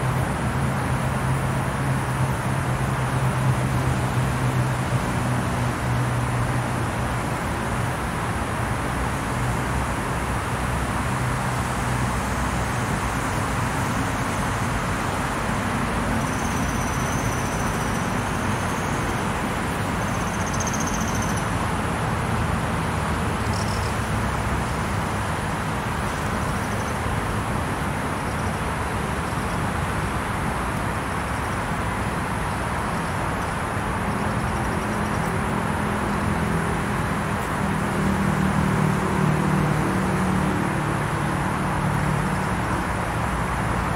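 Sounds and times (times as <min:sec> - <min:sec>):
road traffic noise: 0:00.0 - 0:43.9.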